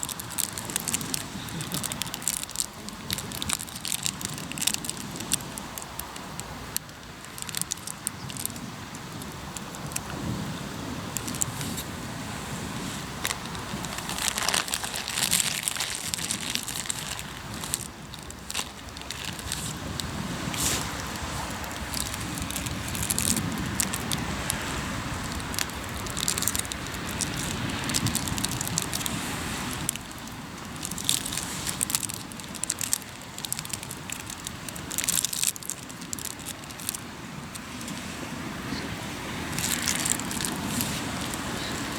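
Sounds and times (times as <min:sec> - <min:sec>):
campfire crackling and popping: 0:00.0 - 0:10.1, 0:11.2 - 0:11.9, 0:13.0 - 0:37.0, 0:39.5 - 0:41.9.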